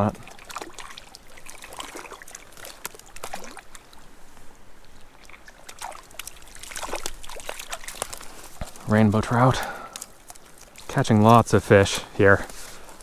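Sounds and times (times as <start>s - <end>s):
small splashes: 0.0s - 11.4s
creek water trickling and pouring: 0.0s - 13.0s.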